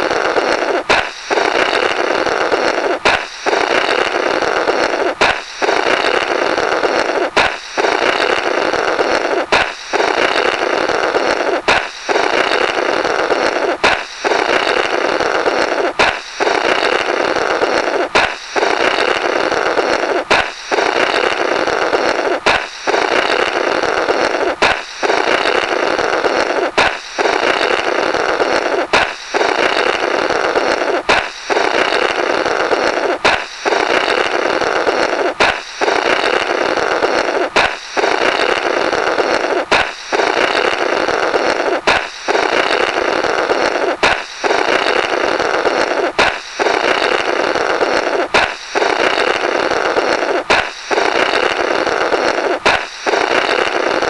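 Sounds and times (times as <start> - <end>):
rasping blow through rubber: 0.0 - 54.0
balloon pop: 0.6 - 4.2, 4.8 - 23.5, 24.2 - 30.0, 30.6 - 43.0, 43.6 - 51.6, 52.2 - 54.0.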